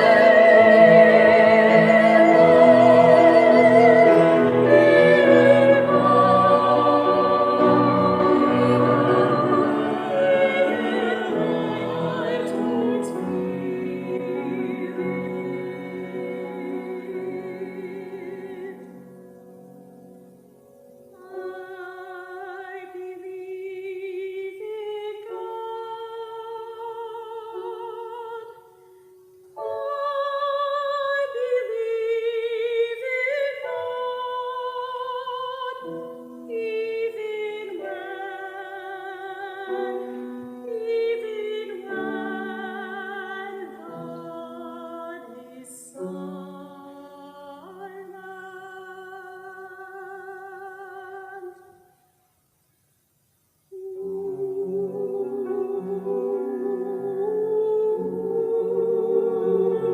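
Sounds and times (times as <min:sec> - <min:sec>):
classical singing with vibrato: 0:00.0 - 0:20.2, 0:21.0 - 0:52.2, 0:53.4 - 0:59.9.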